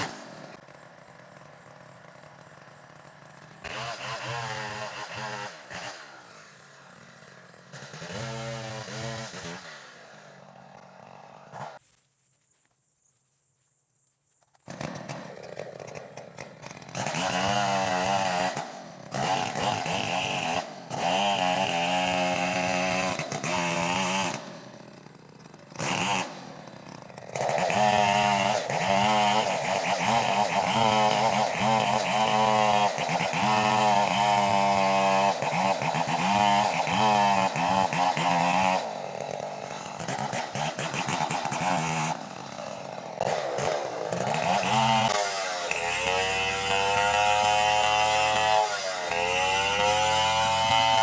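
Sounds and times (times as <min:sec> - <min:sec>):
chainsaw revving cutting wood: 0:00.0 - 0:11.8, 0:14.5 - 0:51.0.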